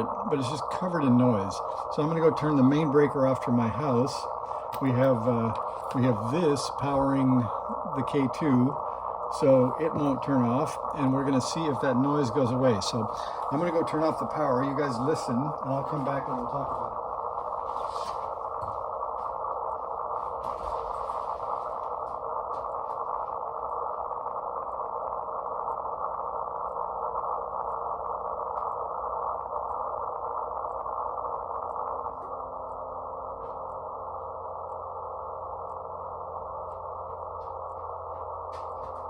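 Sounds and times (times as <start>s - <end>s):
faint steady tones: 0.0s - 39.0s
radio hiss and static: 0.0s - 39.0s.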